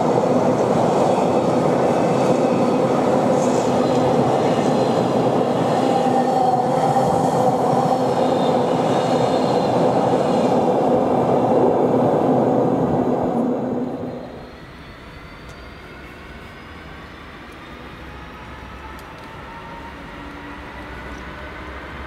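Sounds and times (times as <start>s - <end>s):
diesel locomotive engine: 0.0s - 22.0s.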